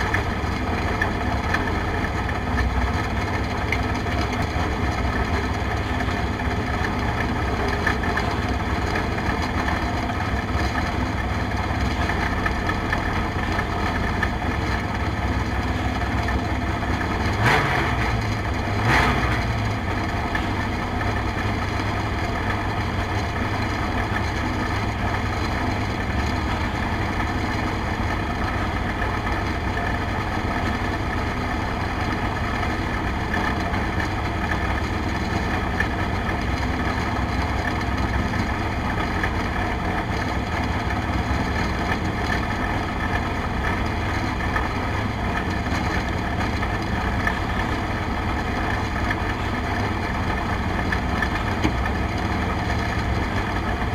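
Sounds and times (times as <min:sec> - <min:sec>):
race car engine idling: 0:00.0 - 0:53.9.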